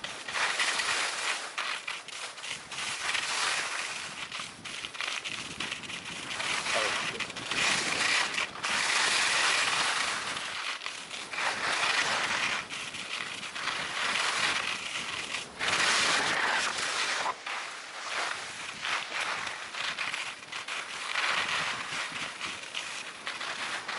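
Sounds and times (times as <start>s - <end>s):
skis scraping over snow: 0.0s - 23.9s.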